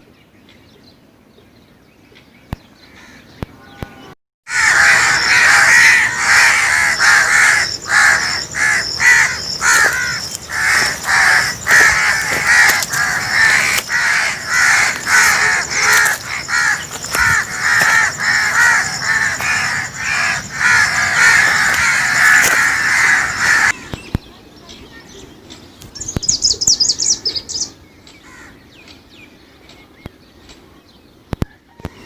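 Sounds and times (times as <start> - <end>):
birds calling harshly: 2.2 - 32.0.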